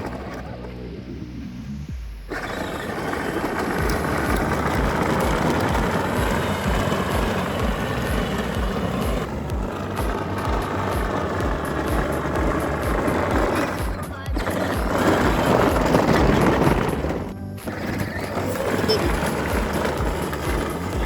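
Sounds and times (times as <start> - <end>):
toy car wheels rumbling over pavement: 0.0 - 1.4, 2.2 - 21.0
low thumping: 0.0 - 21.0.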